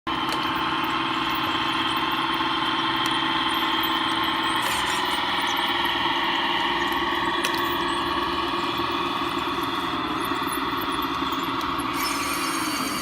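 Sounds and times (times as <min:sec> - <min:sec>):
motor whine: 0:00.1 - 0:13.0
toy bulldozer motor drone: 0:00.1 - 0:13.0.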